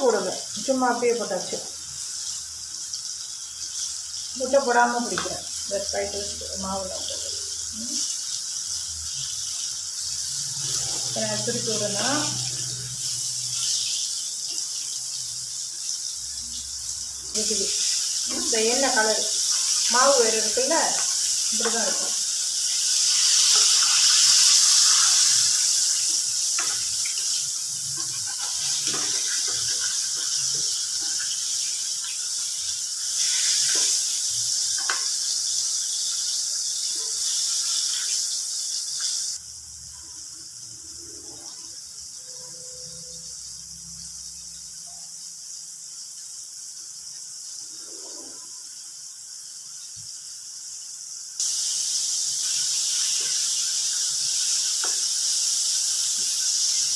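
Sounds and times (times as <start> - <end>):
chicken sizzling in oil: 0.0 - 56.9.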